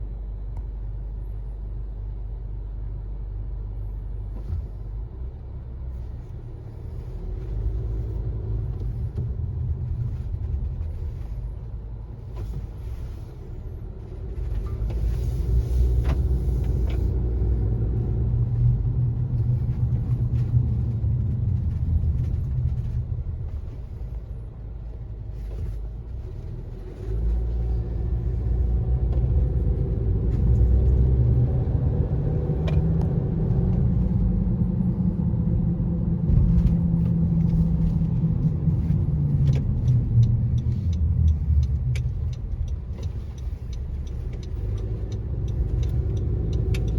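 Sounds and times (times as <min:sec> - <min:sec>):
low humming drone in car cabin: 0:00.0 - 0:46.9.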